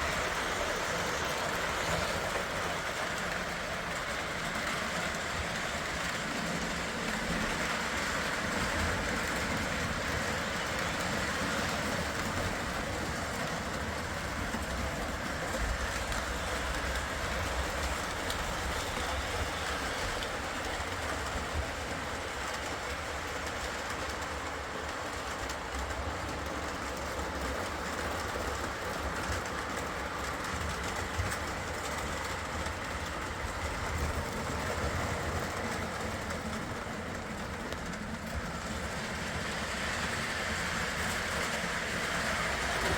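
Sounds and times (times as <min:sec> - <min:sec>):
model train motor hum: 0:00.0 - 0:42.9
wheels clicking over rails: 0:00.0 - 0:42.9.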